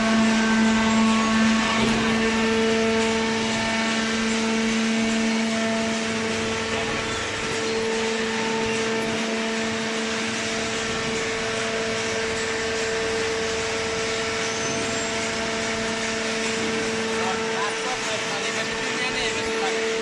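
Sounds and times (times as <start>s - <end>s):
hydraulic baling machine humming: 0.0s - 20.0s.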